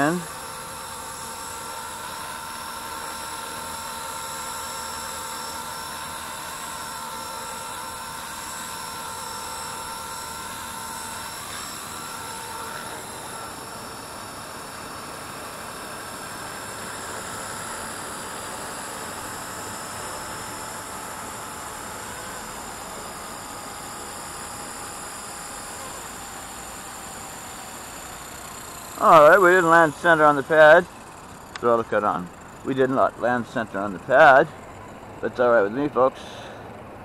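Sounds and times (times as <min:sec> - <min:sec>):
rc helicopter rotor whine: 0:00.0 - 0:37.0.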